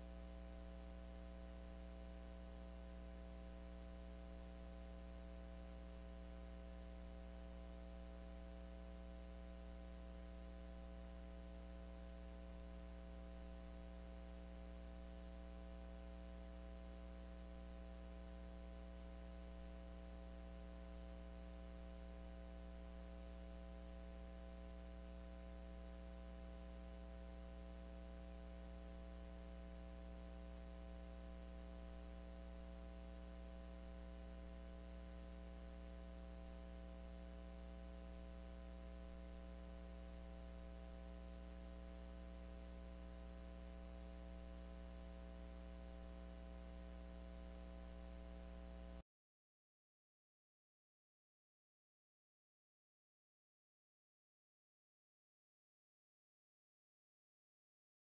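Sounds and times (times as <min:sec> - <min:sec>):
electrical mains hum: 0:00.0 - 0:49.0.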